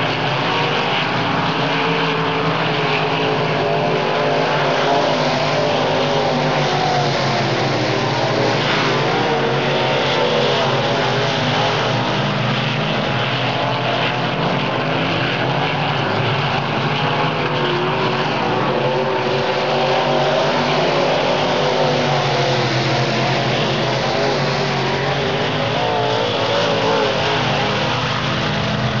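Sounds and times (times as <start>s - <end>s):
race car engines racing: 0.0s - 29.0s.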